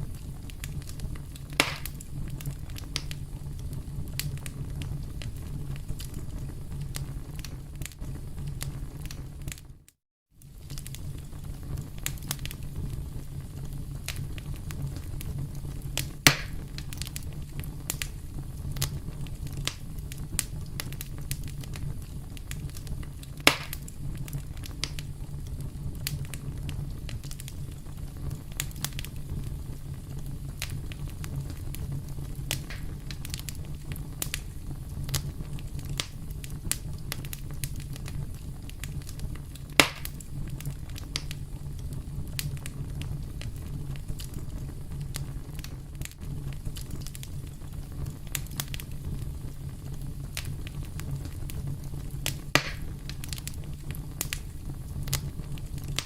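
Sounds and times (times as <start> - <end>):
campfire rumble and crackles: 0.0 - 56.0
fire popping: 0.0 - 56.0.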